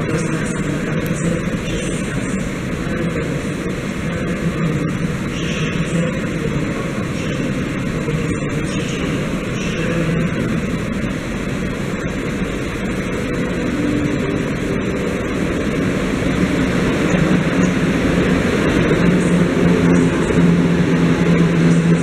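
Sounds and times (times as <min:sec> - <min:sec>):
low steady hum: 0:00.0 - 0:22.0
train rumbling past: 0:00.0 - 0:22.0.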